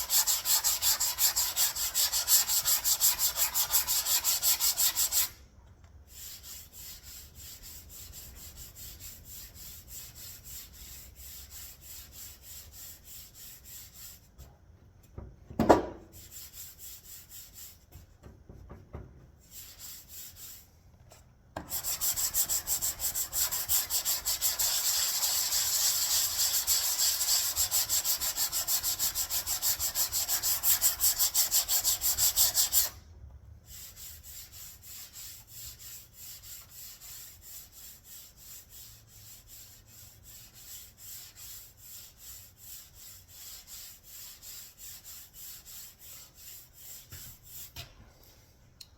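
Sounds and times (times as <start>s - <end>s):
hand sanding strokes: 0.0s - 5.4s, 6.1s - 14.3s, 16.1s - 17.9s, 19.4s - 20.7s, 21.6s - 33.0s, 33.6s - 47.8s.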